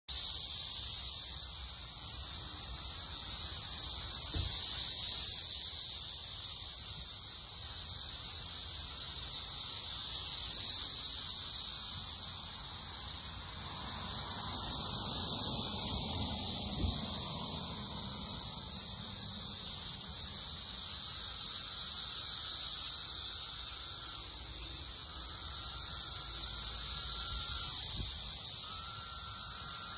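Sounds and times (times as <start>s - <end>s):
cicadas droning: 0.1s - 29.9s.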